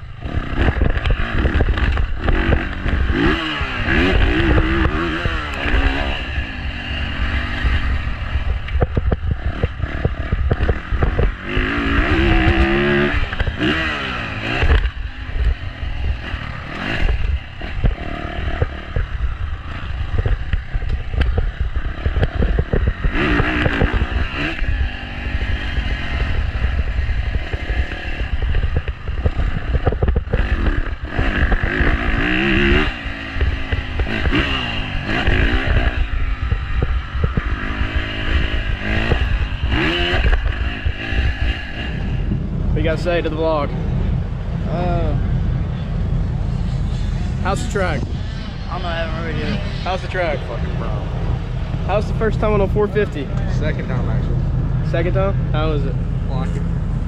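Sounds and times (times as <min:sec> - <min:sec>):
wind on microphone: 0:00.0 - 0:53.9
dirt bike engine revving: 0:00.0 - 0:57.0.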